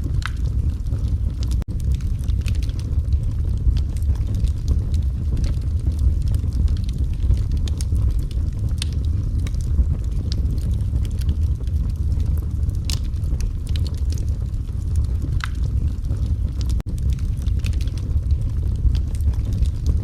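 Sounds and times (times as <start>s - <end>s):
burning logs crackling: 0.0s - 20.0s
fire rumbling: 0.0s - 20.0s.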